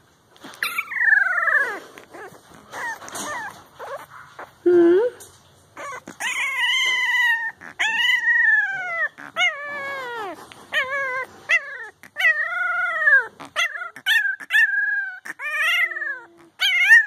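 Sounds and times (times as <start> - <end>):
puppy howling: 0.6 - 4.5, 5.8 - 17.0.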